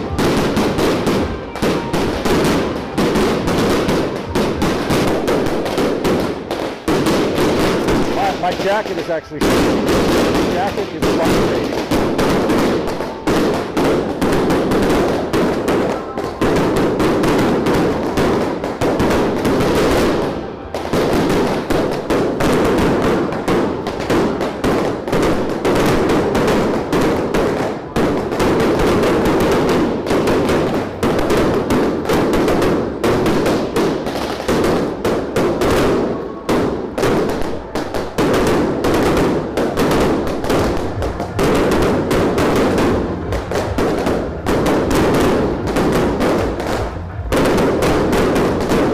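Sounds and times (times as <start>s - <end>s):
firecrackers and bottle rockets exploding: 0.0s - 48.9s.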